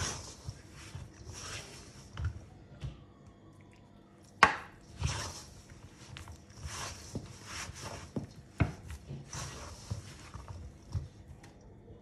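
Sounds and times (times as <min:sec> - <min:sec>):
hands squishing dough: 0:00.0 - 0:12.0.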